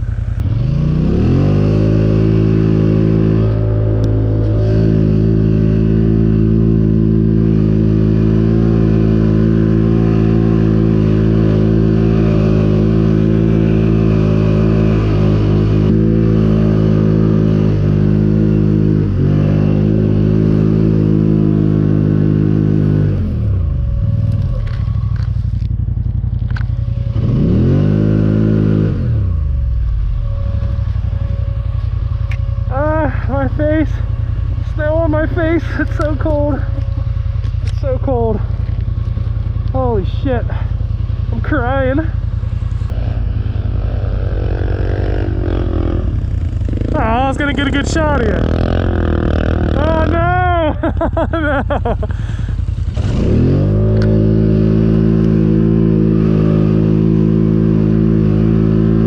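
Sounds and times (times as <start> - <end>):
four-wheeler engine revving: 0.0 - 59.0.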